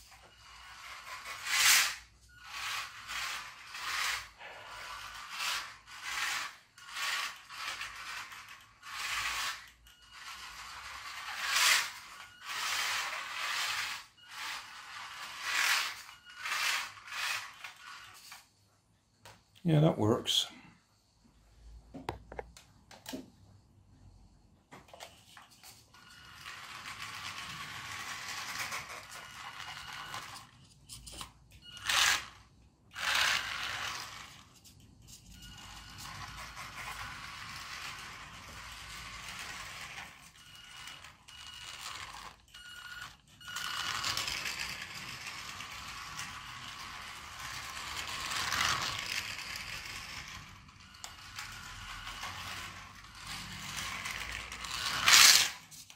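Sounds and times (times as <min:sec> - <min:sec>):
toy car electric motor whirring: 0:00.0 - 0:18.5, 0:25.3 - 0:55.9
plastic wheels rolling on floor: 0:00.0 - 0:18.6, 0:24.7 - 0:55.9.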